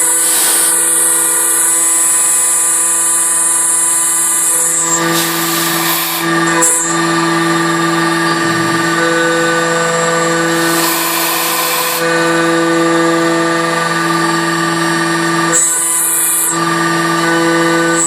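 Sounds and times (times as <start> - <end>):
milling machine spindle whine: 0.0 - 18.0.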